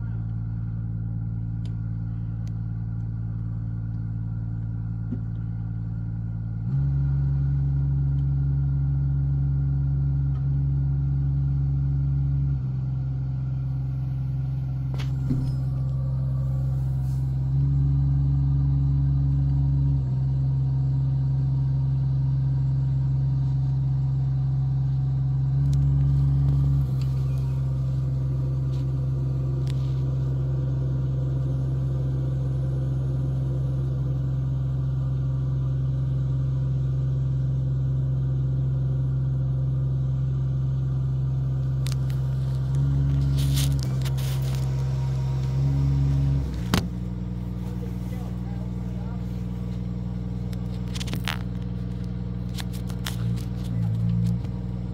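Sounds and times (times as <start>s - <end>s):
crane engine droning: 0.0s - 54.9s.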